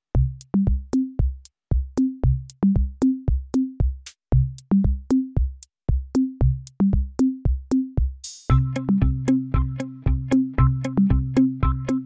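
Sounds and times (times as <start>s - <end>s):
electronic beat music: 2.0s - 12.0s.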